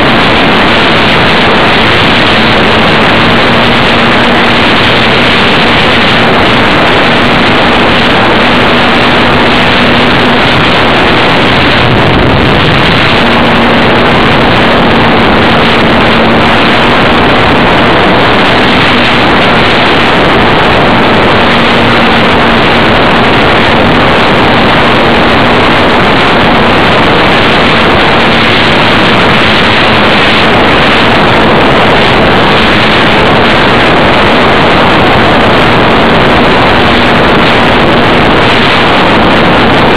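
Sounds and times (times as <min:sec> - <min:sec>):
electric motor and propeller noise: 0:00.0 - 0:39.9
rush of airflow: 0:00.0 - 0:39.9.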